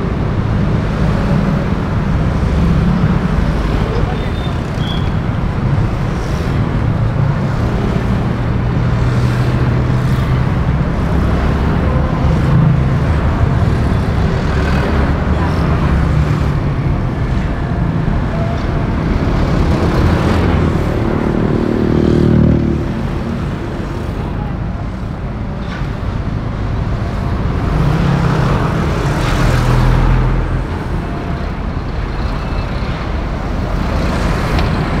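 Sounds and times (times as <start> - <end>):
traffic engine and tyre rumble: 0.0 - 35.0
vehicles passing: 0.0 - 35.0.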